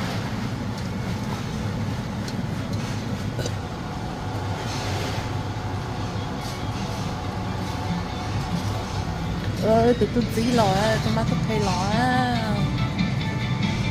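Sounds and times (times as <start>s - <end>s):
truck engine and road rumble: 0.0s - 13.9s.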